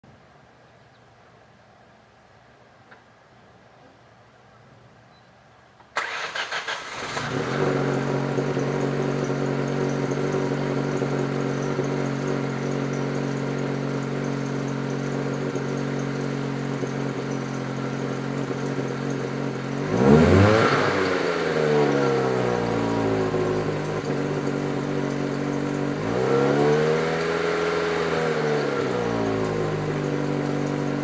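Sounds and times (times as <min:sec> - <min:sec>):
car engine starting and idling: 0:05.8 - 0:31.0
engine revving: 0:06.0 - 0:31.0.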